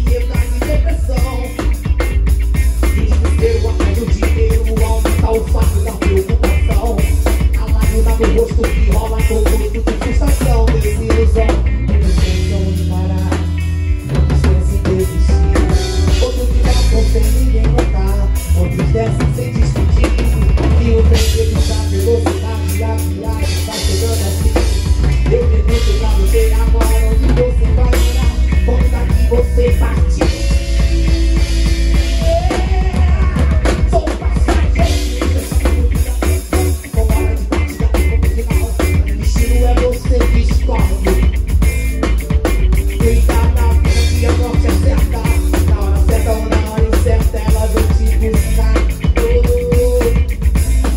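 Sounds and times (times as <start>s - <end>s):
drum kit: 0.0s - 50.9s
electric bass groove: 0.0s - 50.9s.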